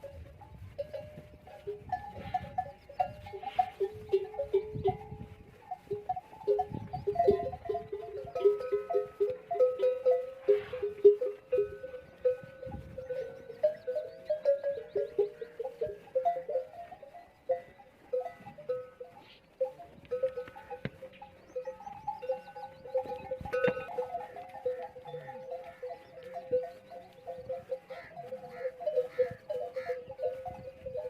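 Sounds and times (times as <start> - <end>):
camel bells clanking: 0.0 - 31.0.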